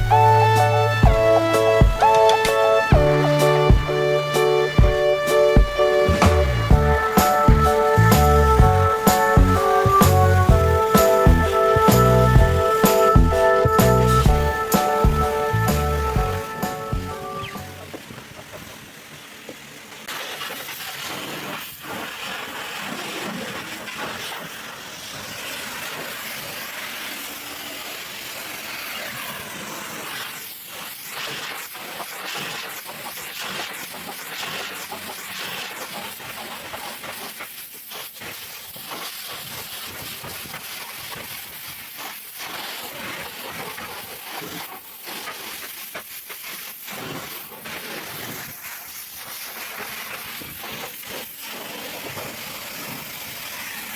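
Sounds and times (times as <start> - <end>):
high-pressure spray hissing: 0.0 - 53.9.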